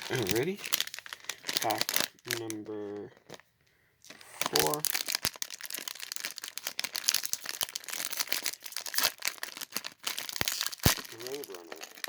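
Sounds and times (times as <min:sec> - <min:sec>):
plastic packet crinkling and tearing: 0:00.0 - 0:12.0.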